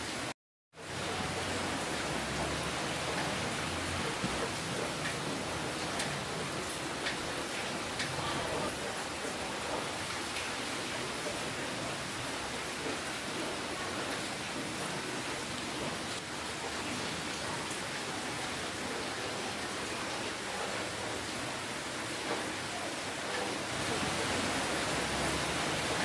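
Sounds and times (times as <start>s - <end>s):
rain hissing: 0.1s - 26.0s.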